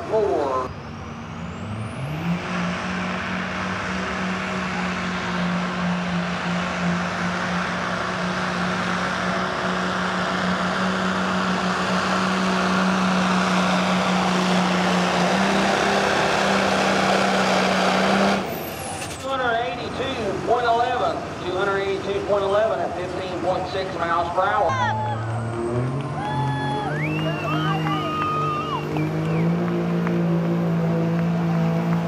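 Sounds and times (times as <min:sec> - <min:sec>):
diesel engine at full throttle: 0:00.0 - 0:32.0.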